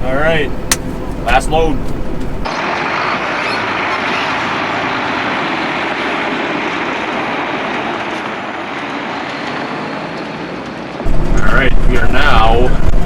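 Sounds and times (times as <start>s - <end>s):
harvest machinery rushing: 0.5s - 13.0s.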